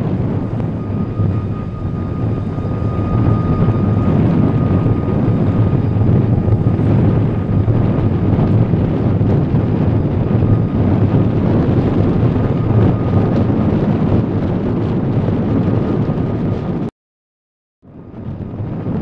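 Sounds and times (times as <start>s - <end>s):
wind buffeting microphone: 0.0s - 16.9s, 17.8s - 19.0s.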